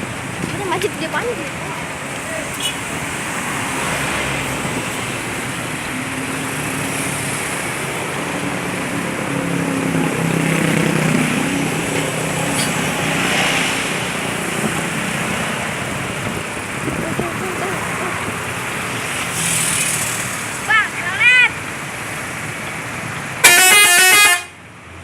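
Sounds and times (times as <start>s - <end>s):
road noise rushing: 0.0s - 25.0s.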